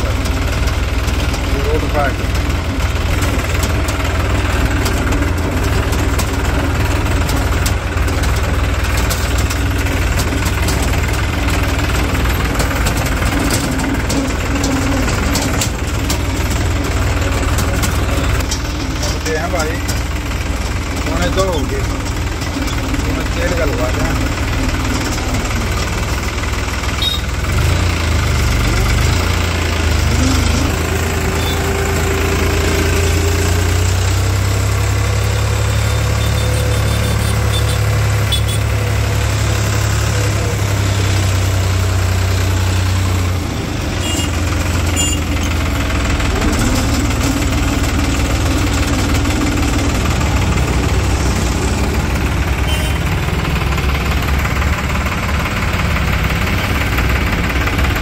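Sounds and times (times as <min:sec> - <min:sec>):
tractor diesel engine driving: 0:00.0 - 0:58.0.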